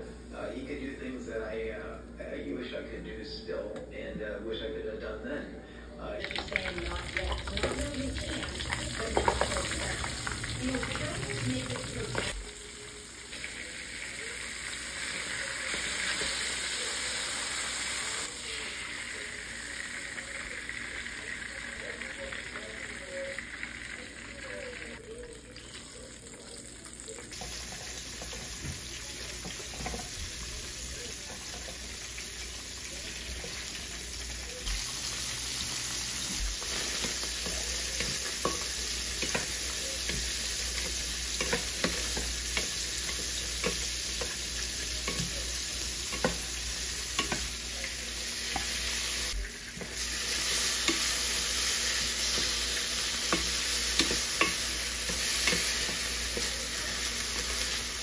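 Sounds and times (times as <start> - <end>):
food sizzling in a frying pan: 6.2 - 58.0.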